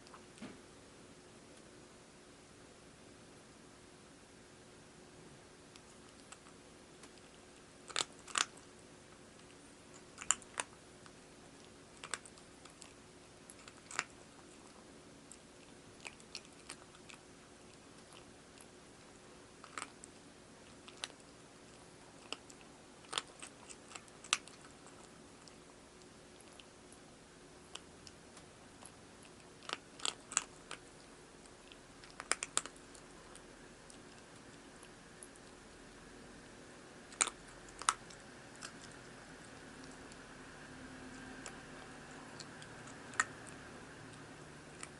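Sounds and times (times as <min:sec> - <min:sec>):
cat crunching dry food: 0:05.7 - 0:35.6, 0:37.1 - 0:44.9.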